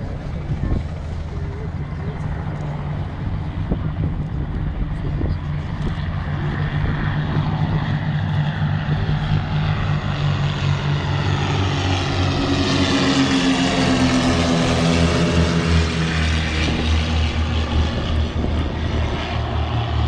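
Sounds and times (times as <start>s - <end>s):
propeller aircraft droning: 0.0s - 20.0s.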